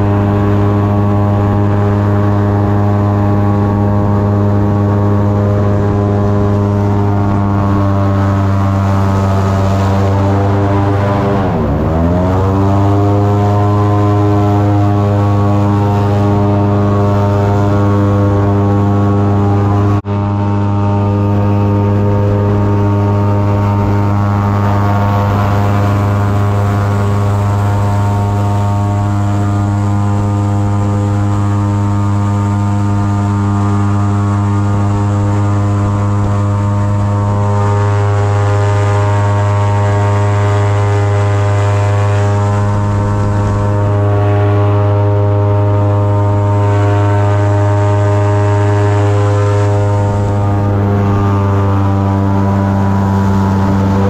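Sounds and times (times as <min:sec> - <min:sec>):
airboat engine and propeller droning: 0:00.0 - 0:54.0.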